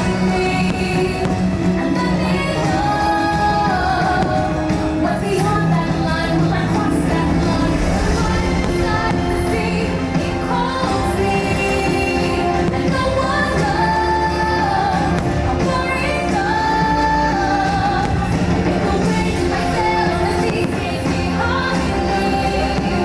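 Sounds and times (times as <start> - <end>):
loud music with singing: 0.0 - 23.0.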